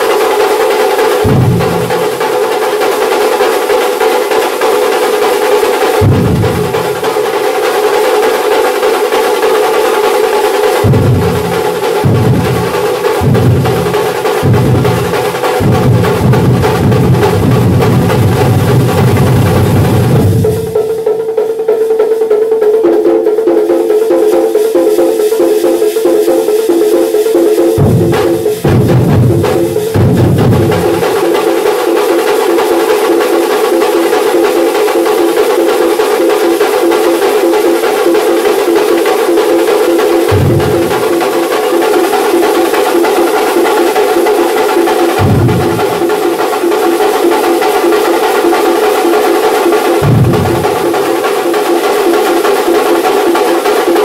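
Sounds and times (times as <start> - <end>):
big drums beating: 0.0 - 54.0.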